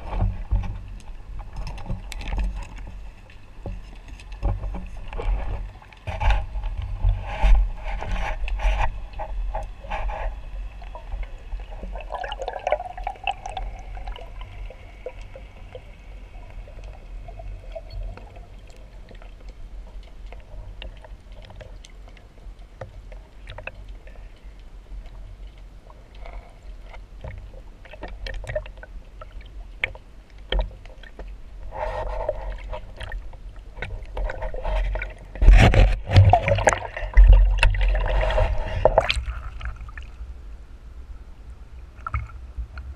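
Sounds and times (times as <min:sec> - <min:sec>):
small clicks and bubbles: 0:00.0 - 0:40.2, 0:42.0 - 0:42.9
water splashing and sloshing: 0:00.0 - 0:40.5, 0:41.8 - 0:42.9
underwater low rumble: 0:00.0 - 0:42.9.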